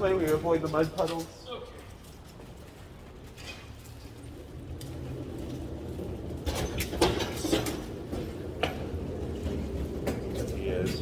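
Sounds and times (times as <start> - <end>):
wheels rumbling over pavement: 0.0 - 11.0.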